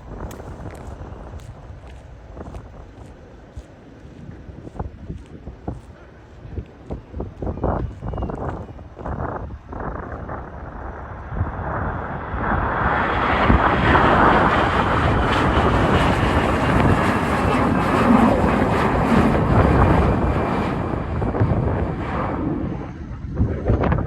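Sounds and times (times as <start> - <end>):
airliner engines passing: 0.0 - 24.0.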